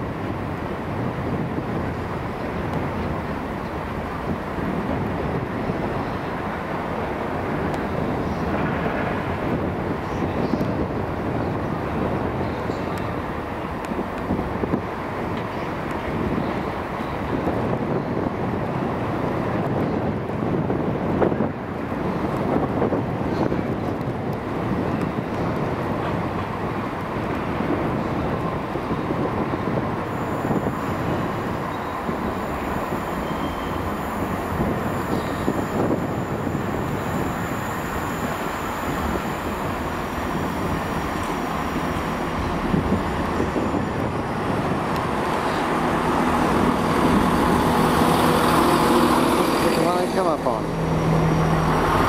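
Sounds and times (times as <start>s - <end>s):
diesel train engine: 0.0s - 52.0s
train wheels on rails: 0.0s - 52.0s.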